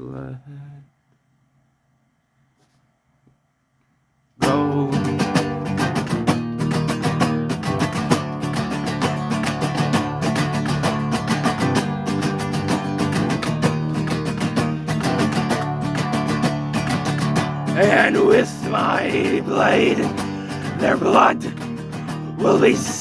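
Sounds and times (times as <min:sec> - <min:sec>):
fast guitar playing: 0:04.4 - 0:23.0.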